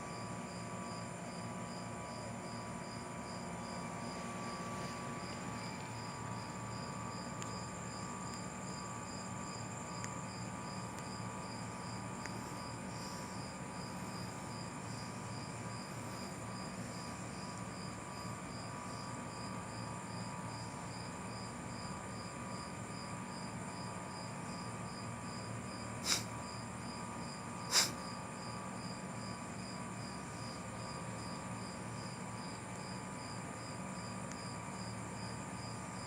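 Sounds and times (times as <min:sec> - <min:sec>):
cricket chirping: 0:00.0 - 0:36.0.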